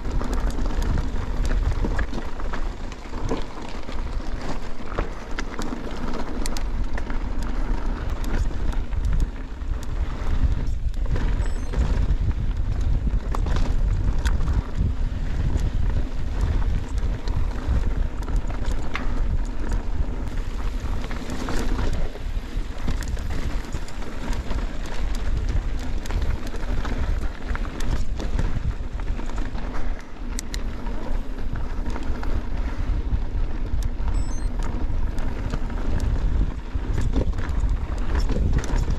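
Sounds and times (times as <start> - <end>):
bike clicking and rattling: 0.0 - 38.9
tyres rolling on rocky trail: 0.0 - 38.9
wind rumble on microphone: 0.0 - 38.9.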